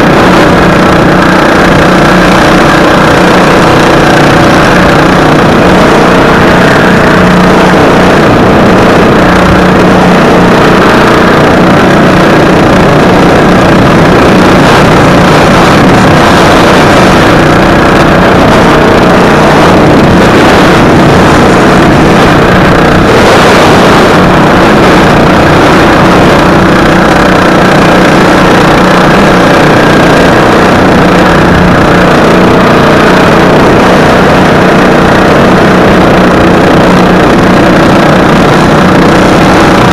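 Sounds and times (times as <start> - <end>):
lawn mower engine running loud: 0.0 - 39.9.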